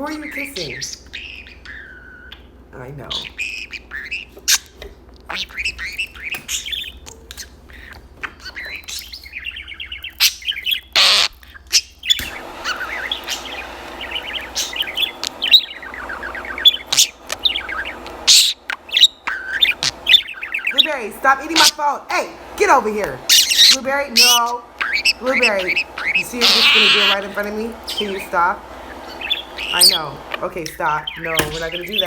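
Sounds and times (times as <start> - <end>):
budgerigar chattering and warbling: 0.0 - 32.0.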